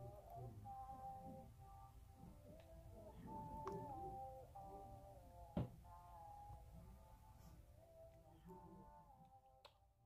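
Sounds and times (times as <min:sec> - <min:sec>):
faint background music of held notes: 0:00.0 - 0:10.0.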